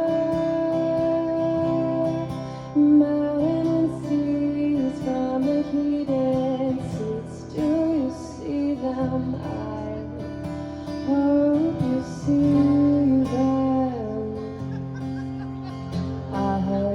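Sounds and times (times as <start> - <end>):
strummed acoustic guitar: 0.0 - 16.9.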